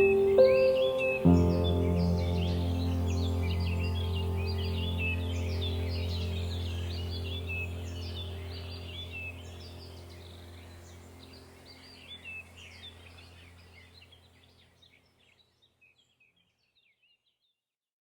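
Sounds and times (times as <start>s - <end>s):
low steady hum: 0.0s - 15.0s
small birds chirping and singing: 0.0s - 17.6s.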